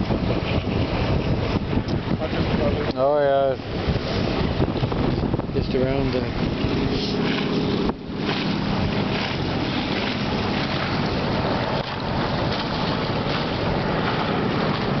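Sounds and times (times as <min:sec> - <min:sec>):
water rushing past hull: 0:00.0 - 0:15.0
wind buffeting microphone: 0:00.0 - 0:15.0.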